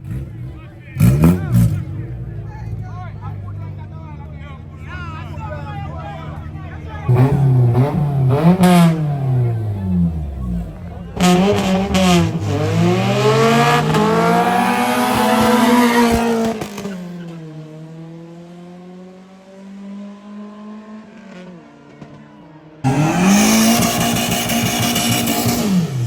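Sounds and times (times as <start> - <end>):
car engine at full throttle: 0.0 - 26.0.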